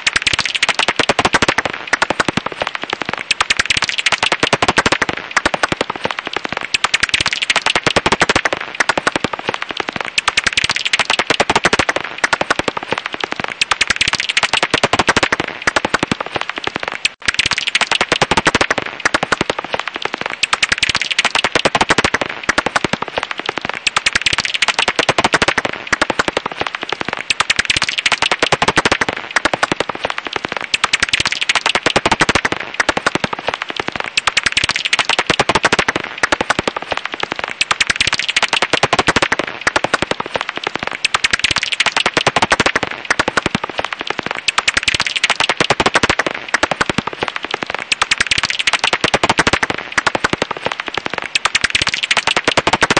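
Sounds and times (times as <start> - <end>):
bat calls crackling clicks: 0.0 - 52.9.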